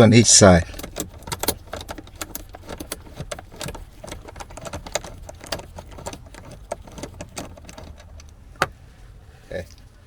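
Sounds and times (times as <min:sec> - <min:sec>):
metallic clicks and rattles: 0:00.4 - 0:09.9.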